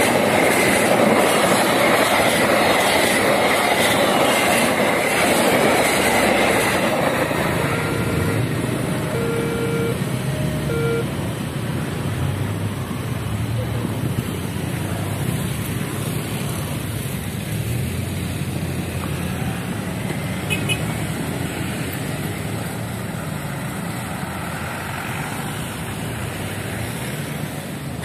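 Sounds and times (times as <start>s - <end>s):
road traffic engines: 0.0s - 28.0s.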